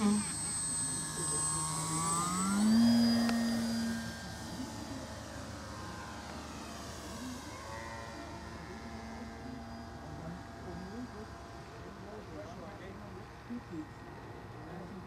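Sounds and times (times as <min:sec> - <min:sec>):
model plane motor droning: 0:00.0 - 0:15.0.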